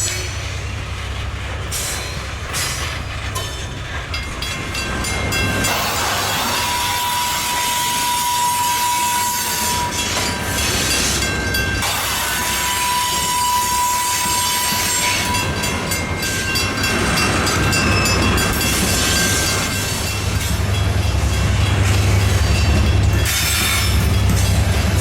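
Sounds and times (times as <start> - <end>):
train low rumble: 0.0 - 25.0
wheels squealing on rail: 0.0 - 25.0.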